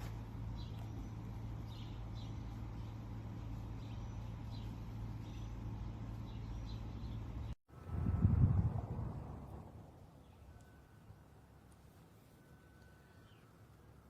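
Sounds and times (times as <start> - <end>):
birds chirping: 0.0 - 7.6, 10.1 - 14.0
low motor hum: 0.0 - 14.0.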